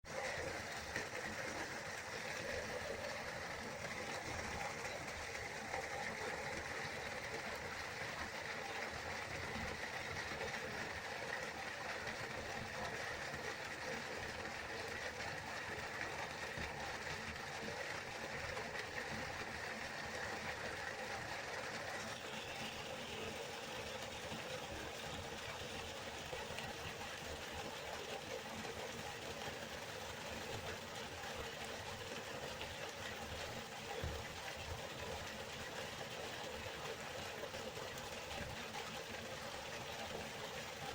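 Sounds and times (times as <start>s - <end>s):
river water flowing: 0.1s - 40.9s.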